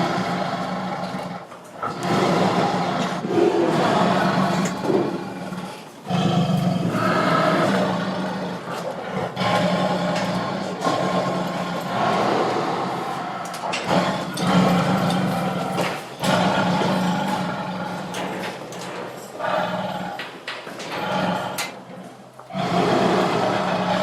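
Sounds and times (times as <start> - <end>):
tiger growling and roaring: 0.0 - 24.0.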